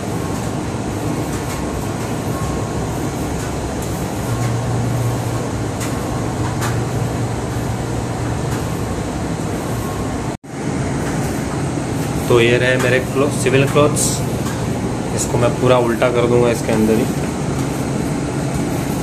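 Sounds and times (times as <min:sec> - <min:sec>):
low mechanical hum: 0:00.0 - 0:19.0
washing machine drum turning: 0:00.0 - 0:19.0.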